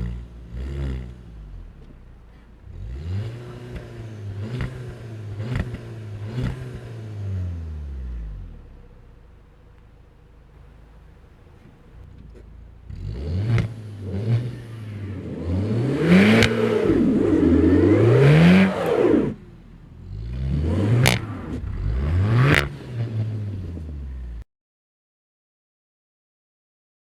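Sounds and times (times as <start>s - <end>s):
car engine revving: 0.0s - 24.4s
exhaust cracks: 0.0s - 24.4s.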